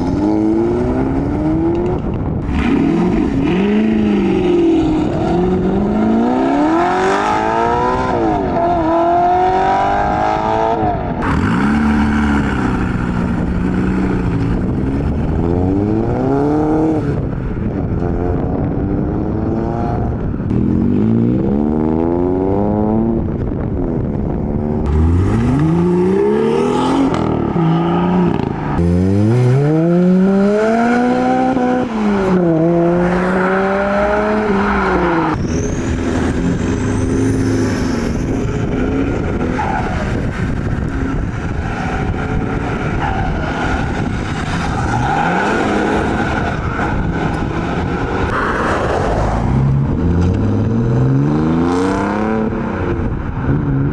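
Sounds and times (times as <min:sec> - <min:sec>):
car engines revving and accelerating: 0:00.0 - 0:53.9.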